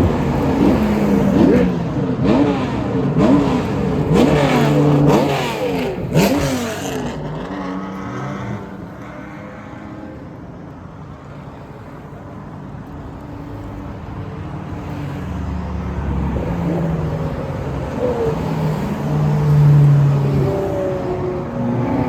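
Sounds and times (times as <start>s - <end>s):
sports car engines passing: 0.0s - 22.0s.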